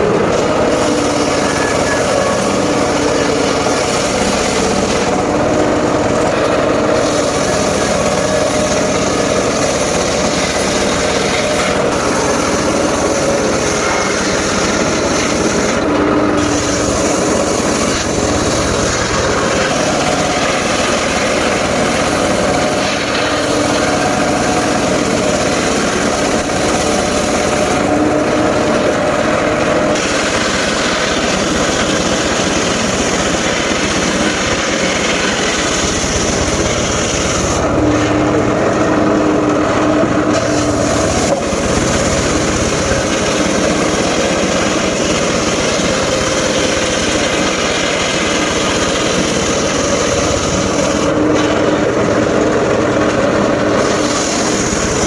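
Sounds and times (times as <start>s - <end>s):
circular saw cutting timber: 0.0s - 55.0s.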